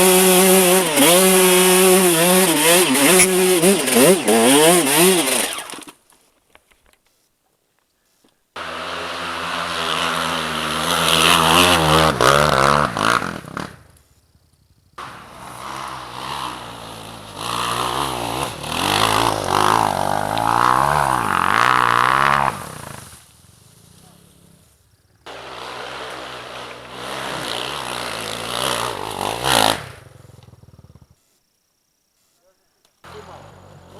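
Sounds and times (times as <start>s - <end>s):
motorcycle engine revving: 0.0s - 5.9s, 8.6s - 14.0s, 14.7s - 31.2s.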